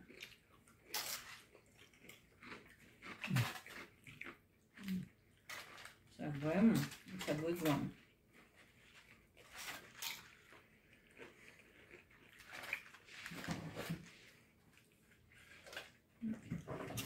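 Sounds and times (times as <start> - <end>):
people crunching tortilla chips: 0.0 - 17.0.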